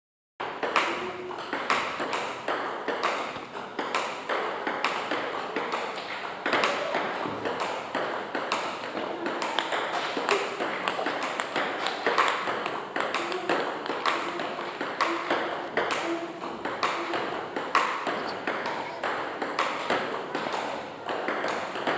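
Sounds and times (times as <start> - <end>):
table tennis ball clicking: 0.6 - 21.9.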